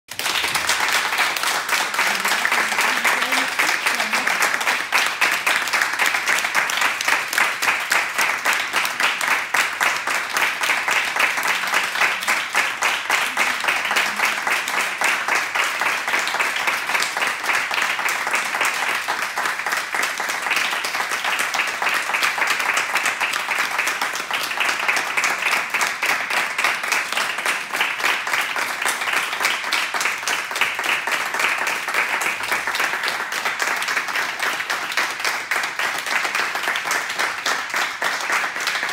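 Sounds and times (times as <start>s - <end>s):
audience applause: 0.1s - 38.9s.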